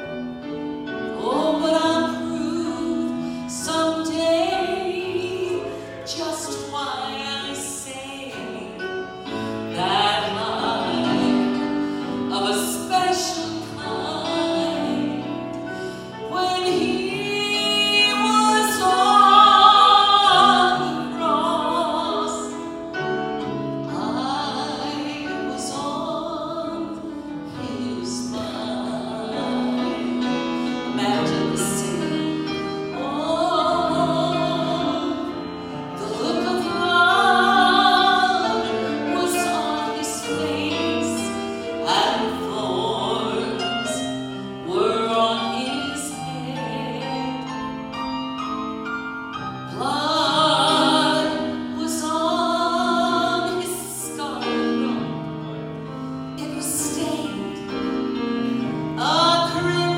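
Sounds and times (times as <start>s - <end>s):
gospel singing with vibrato: 0.9s - 48.1s, 49.5s - 59.9s.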